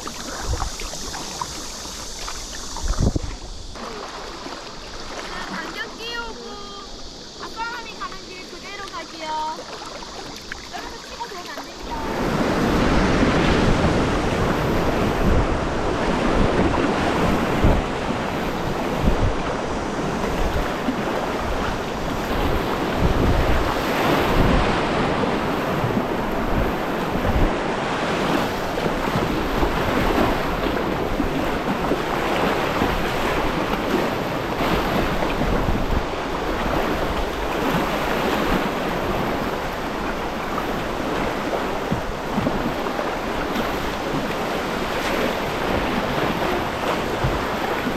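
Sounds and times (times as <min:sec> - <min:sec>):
river water rushing: 0:00.0 - 0:47.9
wind buffeting microphone: 0:00.0 - 0:47.9.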